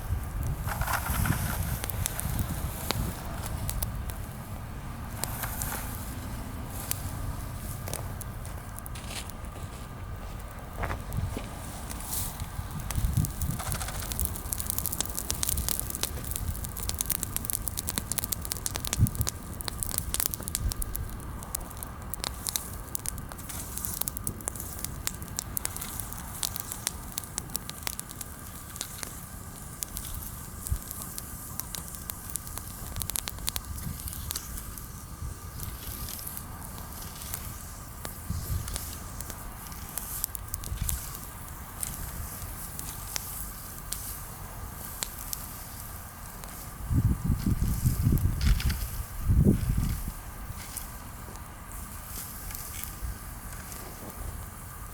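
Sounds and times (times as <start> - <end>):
bonfire crackling with snaps and pops: 0.0 - 54.9.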